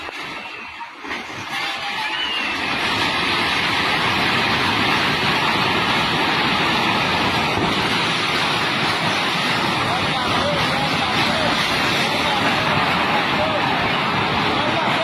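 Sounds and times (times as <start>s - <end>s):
floodwater roaring: 0.0s - 15.0s.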